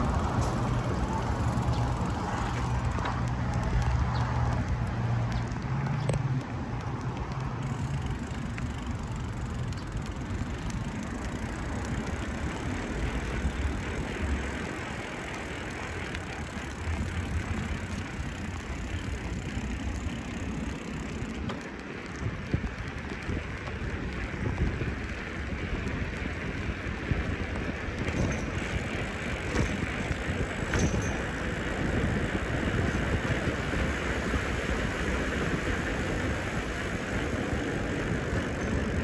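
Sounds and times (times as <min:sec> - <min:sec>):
bicycle tyres rumbling: 0:00.0 - 0:39.0.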